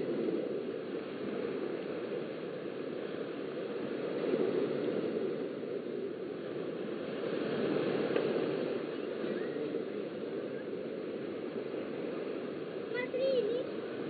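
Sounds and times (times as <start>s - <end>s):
small waves breaking on sand: 0.0s - 14.0s.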